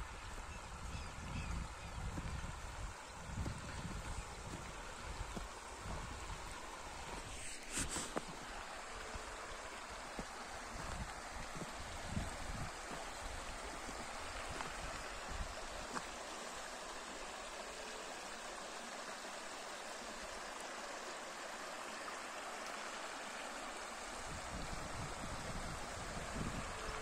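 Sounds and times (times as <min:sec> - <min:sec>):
river rippling over rocks: 0:01.6 - 0:27.0.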